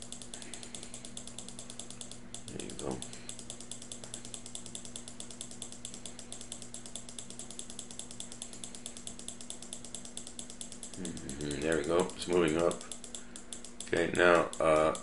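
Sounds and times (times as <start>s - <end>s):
low steady hum: 0.0s - 15.0s
rapid even ticking: 0.0s - 15.0s.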